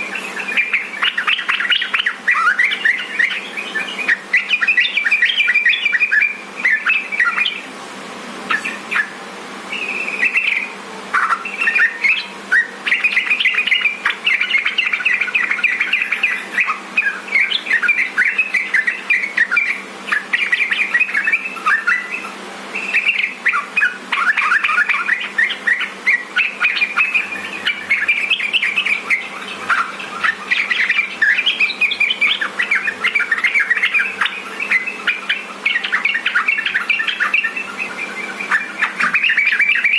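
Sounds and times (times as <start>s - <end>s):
bulbuls chirping song: 0.0s - 39.9s.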